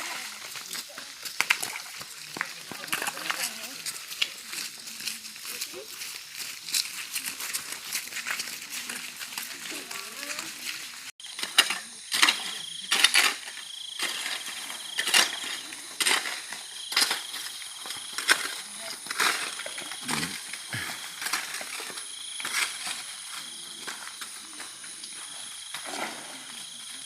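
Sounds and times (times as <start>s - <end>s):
hand tools scraping on gravel: 0.0s - 27.0s.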